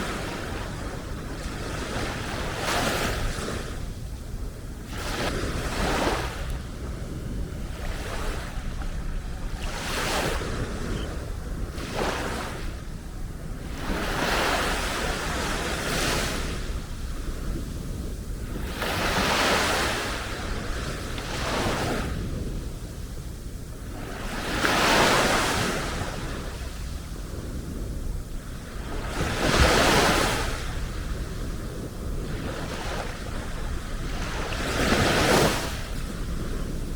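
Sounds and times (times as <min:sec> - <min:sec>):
small waves breaking on beach: 0:00.0 - 0:36.9.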